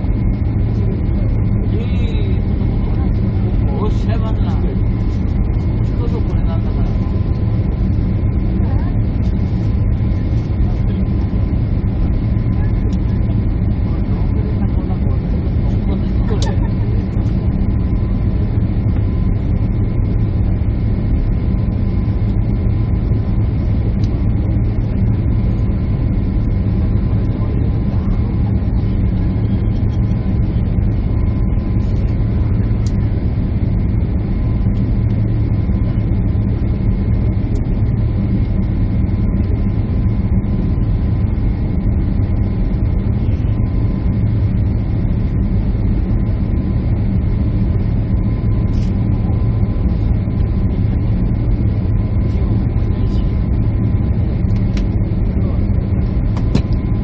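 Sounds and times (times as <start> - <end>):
faint steady whine: 0.0 - 57.0
jet engines and rushing air: 0.0 - 57.0.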